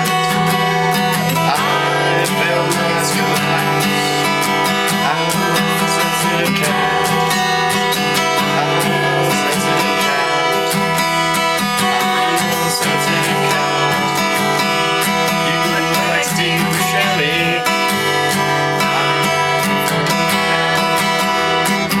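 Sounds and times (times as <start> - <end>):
acoustic guitar strummed: 0.0 - 22.0.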